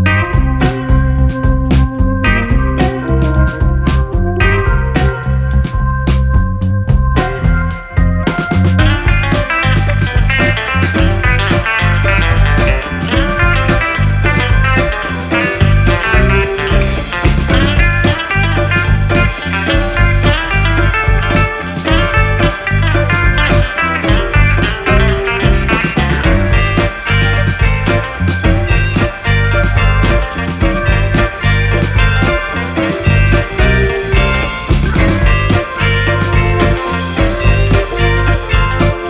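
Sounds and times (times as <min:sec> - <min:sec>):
blues rock instrumental with guitar: 0:00.0 - 0:39.0.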